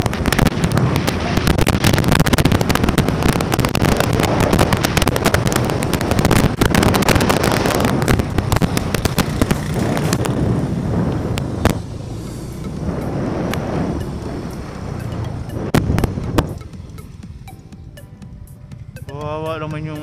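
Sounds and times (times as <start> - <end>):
wind buffeting microphone: 0.0 - 17.5
vehicle rumble: 0.0 - 20.0.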